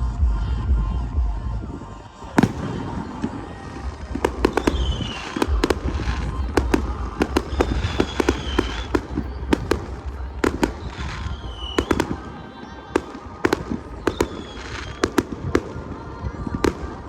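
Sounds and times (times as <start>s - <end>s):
firework whistling tone: 2.0s - 17.0s
fireworks banging: 2.1s - 17.0s.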